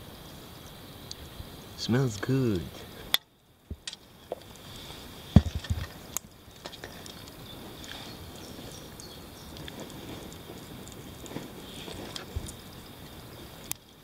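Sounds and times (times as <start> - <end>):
water bubbling at a rolling boil: 0.0 - 14.0.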